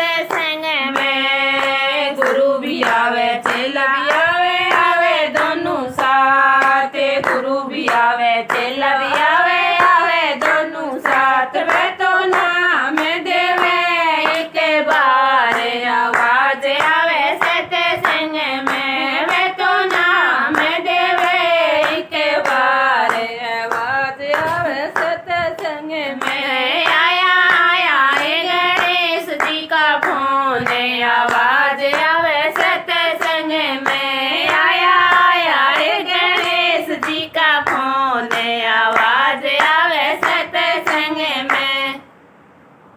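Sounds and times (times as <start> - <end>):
woman singing: 0.0 - 42.0
hand clapping: 0.2 - 41.9.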